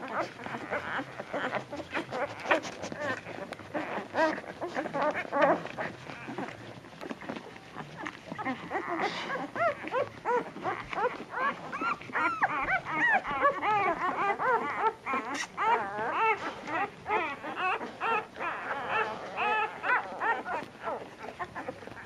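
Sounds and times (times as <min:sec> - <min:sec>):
puppies whimpering and squeaking: 0:00.0 - 0:22.0.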